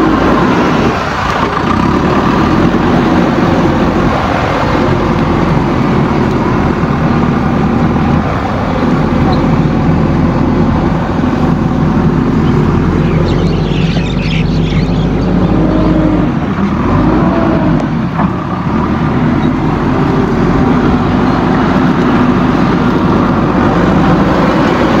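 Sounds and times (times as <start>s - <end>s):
backhoe diesel engine running: 0.0s - 25.0s.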